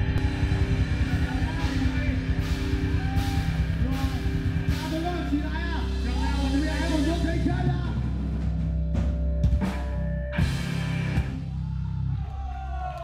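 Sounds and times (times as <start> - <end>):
rock music with drums and bass: 0.0 - 12.3.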